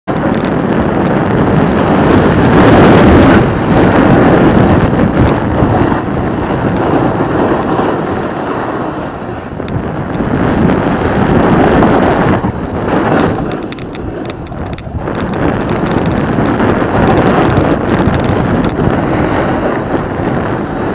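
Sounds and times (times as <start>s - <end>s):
snowboard sliding over snow: 0.1s - 20.9s
wind buffeting microphone: 0.1s - 20.9s.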